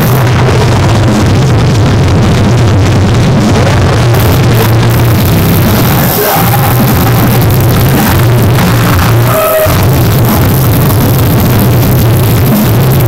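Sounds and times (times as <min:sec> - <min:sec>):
loud rock music: 0:00.0 - 0:13.0
steady low buzz: 0:00.0 - 0:13.0.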